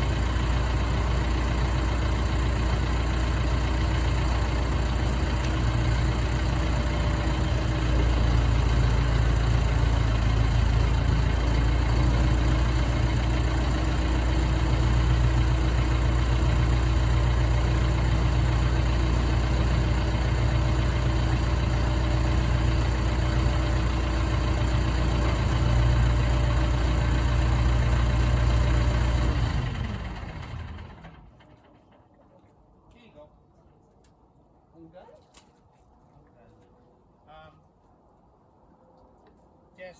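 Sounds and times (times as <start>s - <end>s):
diesel engine rumbling: 0.0s - 32.3s.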